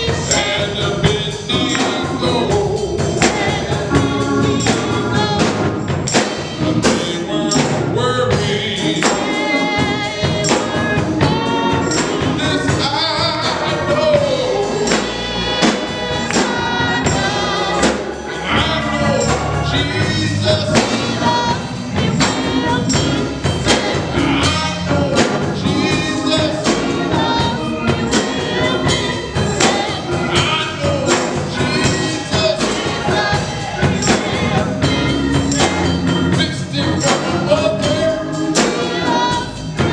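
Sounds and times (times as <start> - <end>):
gospel singing: 0.0 - 39.9
steady percussion beat: 0.0 - 39.9.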